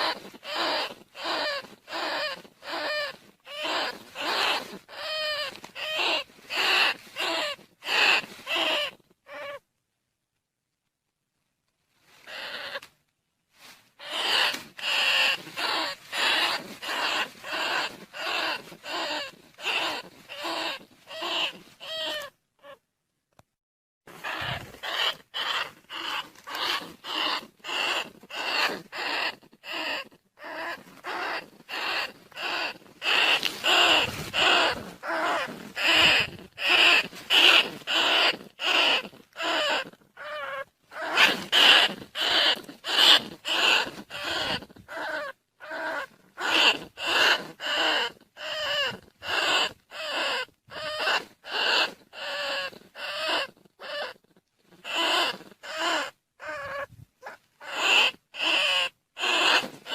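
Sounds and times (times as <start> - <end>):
rat squeaking calls: 0.0 - 9.6, 12.2 - 12.9, 14.0 - 22.8, 24.1 - 59.9.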